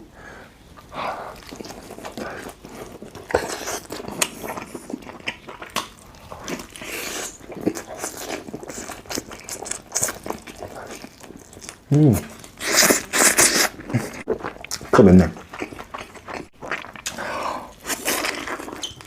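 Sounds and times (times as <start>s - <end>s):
biting and chewing meat: 1.2s - 19.0s.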